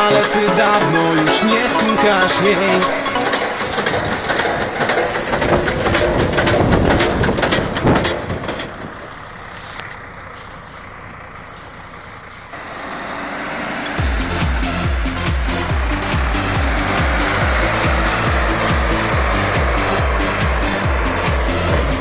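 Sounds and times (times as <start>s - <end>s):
farm machinery knocking and rattling: 0.0s - 22.0s
tractor engine: 0.0s - 22.0s.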